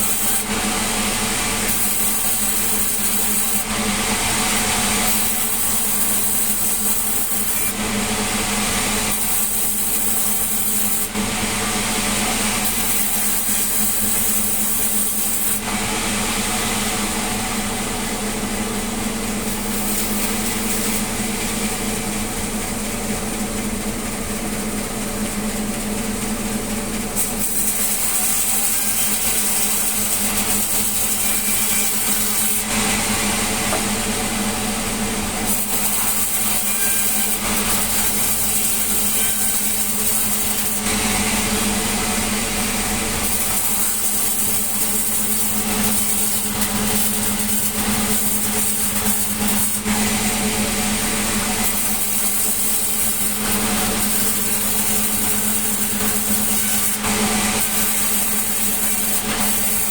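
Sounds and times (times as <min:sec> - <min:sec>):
sawmill saw running: 0:00.0 - 0:59.9.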